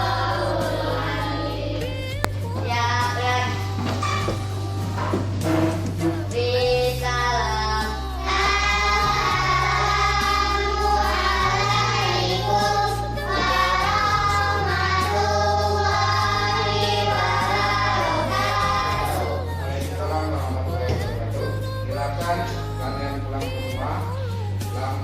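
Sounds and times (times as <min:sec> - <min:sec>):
group of voices singing: 0:00.0 - 0:25.0.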